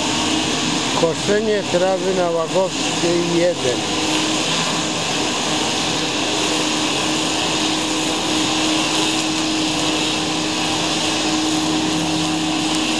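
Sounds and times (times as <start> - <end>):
string trimmers droning: 1.0 - 12.9.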